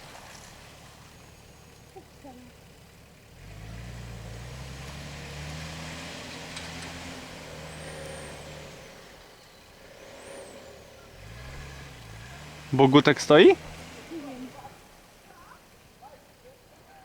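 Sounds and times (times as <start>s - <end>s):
engine revving under load: 0.0s - 16.1s.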